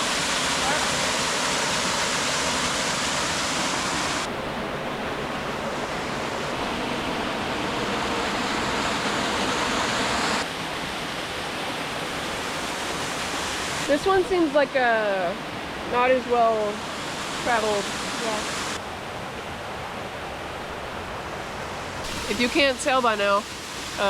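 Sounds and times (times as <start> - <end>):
waterfall rushing: 0.0 - 18.8, 22.0 - 24.0.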